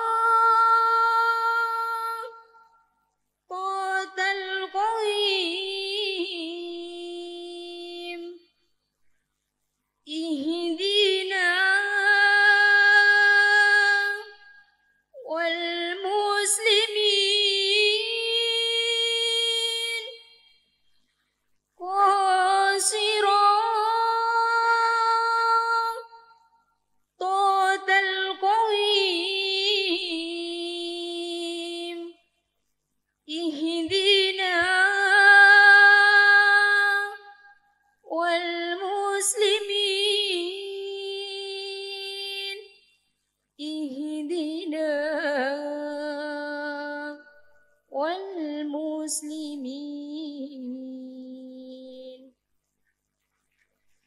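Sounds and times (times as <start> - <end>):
woman chanting: 0.0 - 2.6, 3.5 - 8.5, 10.1 - 14.5, 15.2 - 20.2, 21.8 - 26.2, 27.2 - 32.2, 33.3 - 37.5, 38.1 - 42.7, 43.6 - 52.4.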